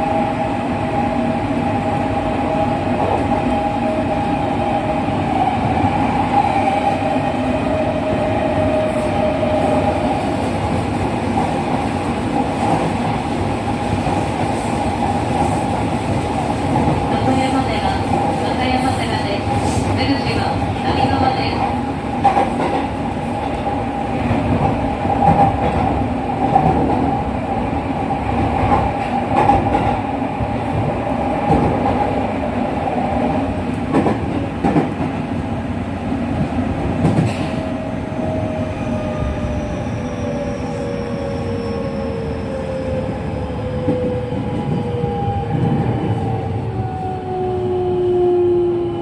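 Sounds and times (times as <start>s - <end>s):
train wheel and rail noise: 0.0s - 49.0s.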